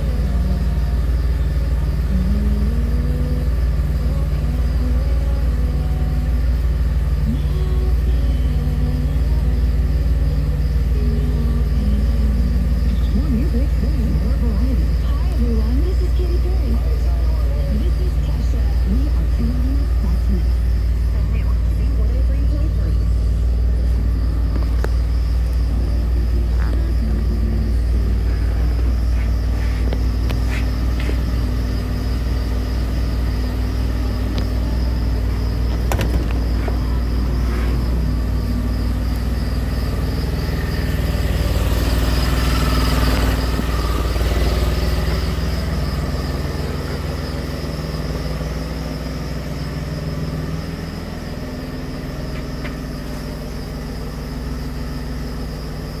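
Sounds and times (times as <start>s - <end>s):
car engine idling: 0.0s - 56.0s
thin high whine: 0.0s - 56.0s.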